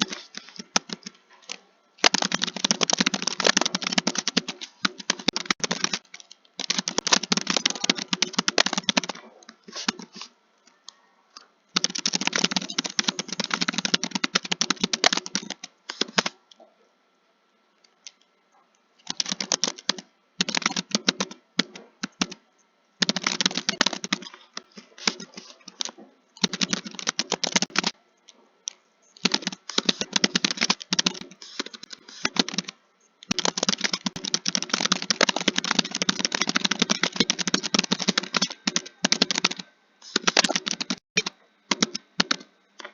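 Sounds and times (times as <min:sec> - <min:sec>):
keyboard typing: 0:00.0 - 0:16.6, 0:19.0 - 0:22.4, 0:23.0 - 0:28.0, 0:28.6 - 0:42.9.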